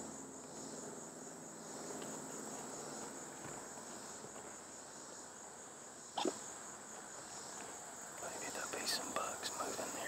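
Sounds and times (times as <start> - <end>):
insects chorus shrill drone: 0.0 - 10.0.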